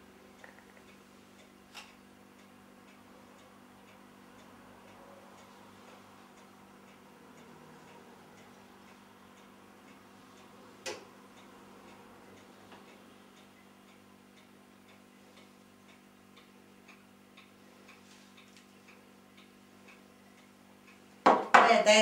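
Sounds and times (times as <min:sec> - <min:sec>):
steady low hum: 0:00.0 - 0:21.2
faint regular ticking: 0:00.1 - 0:21.2.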